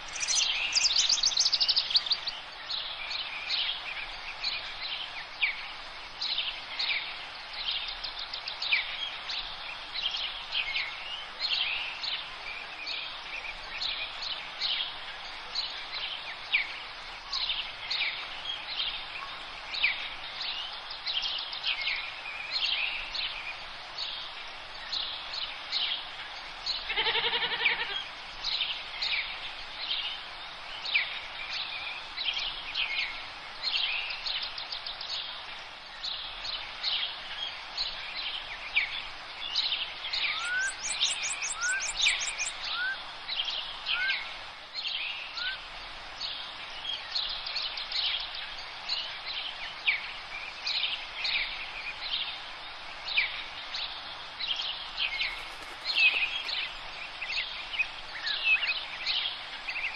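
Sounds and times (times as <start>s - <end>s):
outdoor background noise: 0.0s - 59.9s
songbirds singing and chirping: 0.0s - 59.9s.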